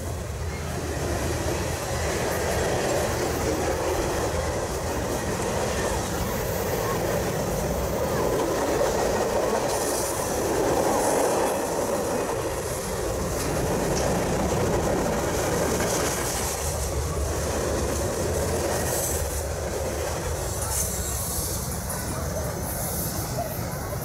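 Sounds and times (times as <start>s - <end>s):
train wheels rumbling on rail: 0.0s - 24.0s
wheels hissing and squealing: 0.0s - 24.0s.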